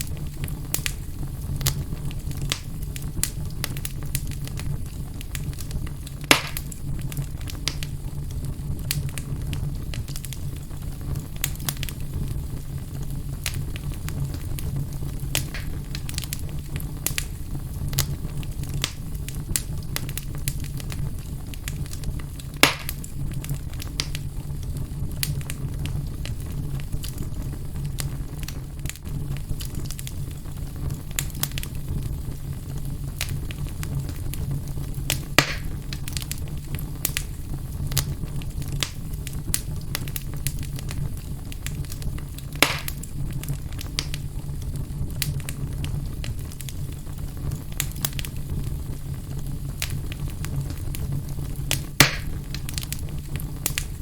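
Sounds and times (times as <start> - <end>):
fire crackling: 0.0 - 54.0
fire popping: 0.0 - 54.0
low fire hum: 0.0 - 54.0.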